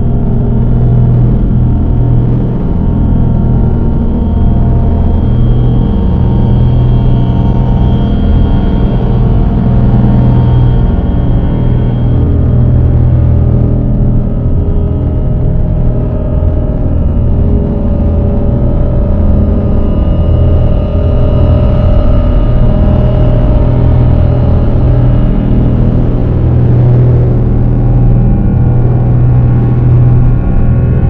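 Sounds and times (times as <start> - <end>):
dark ambient drone music: 0.0 - 31.0.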